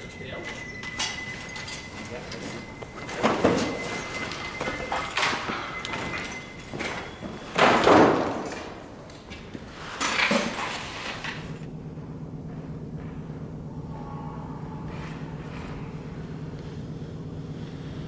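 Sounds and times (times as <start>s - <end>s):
heavy industrial impacts: 0.0s - 9.2s, 11.6s - 18.0s
steady low hum: 0.0s - 18.0s.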